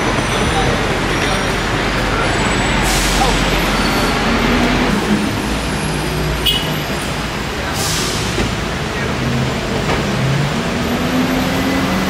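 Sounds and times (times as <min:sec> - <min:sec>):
vehicle running noise: 0:00.0 - 0:12.0.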